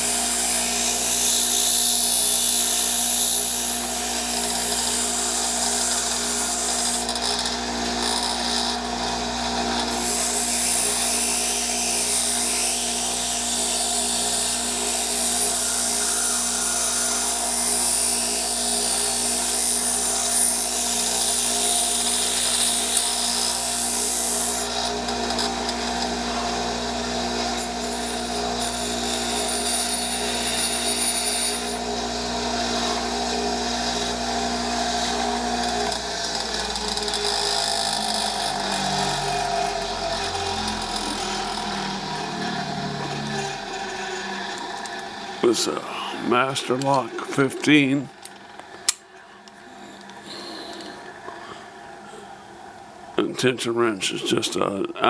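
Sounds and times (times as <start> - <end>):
grinder grinding metal: 0.0 - 49.0.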